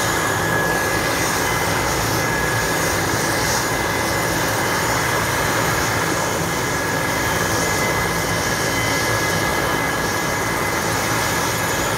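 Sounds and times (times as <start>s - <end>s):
helicopter rotor noise: 0.0s - 11.9s
helicopter turbine whine: 0.0s - 11.9s.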